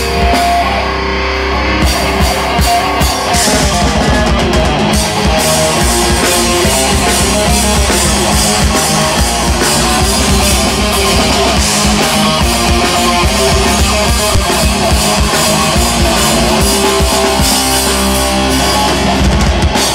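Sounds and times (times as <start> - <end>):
drum kit: 0.0 - 19.9
electric guitars: 0.0 - 19.9.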